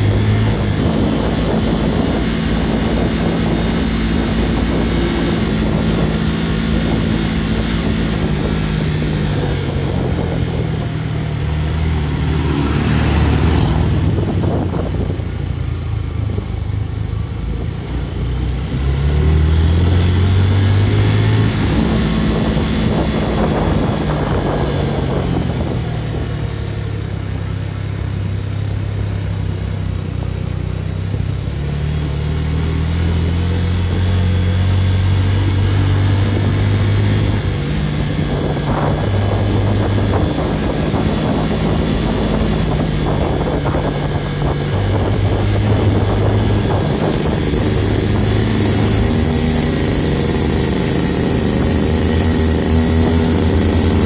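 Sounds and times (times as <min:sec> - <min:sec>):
small motorcycle engine: 0:00.0 - 0:54.0.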